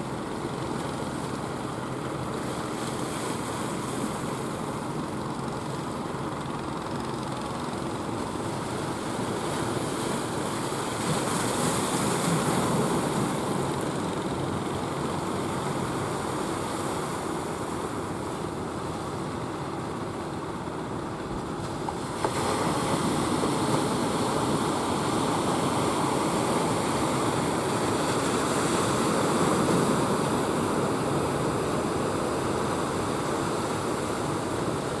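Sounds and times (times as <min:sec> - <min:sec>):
waves breaking on a beach: 0:00.0 - 0:35.0.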